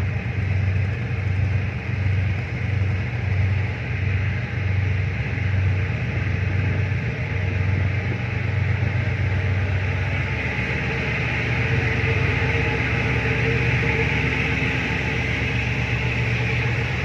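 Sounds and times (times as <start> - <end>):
boat engine throbbing hum: 0.0 - 17.0.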